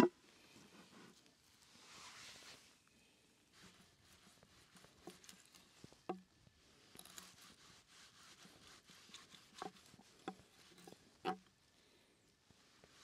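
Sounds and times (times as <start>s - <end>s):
faint crackle: 0.0s - 13.0s.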